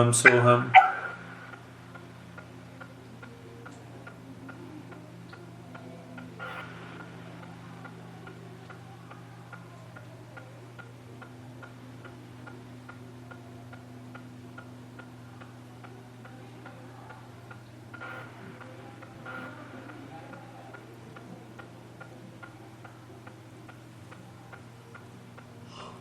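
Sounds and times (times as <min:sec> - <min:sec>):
low electrical hum: 0:00.0 - 0:26.0
steady ticking: 0:00.0 - 0:26.0.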